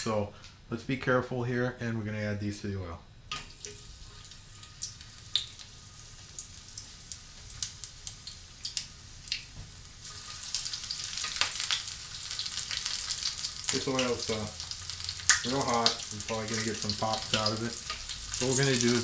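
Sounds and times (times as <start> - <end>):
food sizzling in oil: 3.3 - 19.0
oil popping and crackling: 3.3 - 19.0.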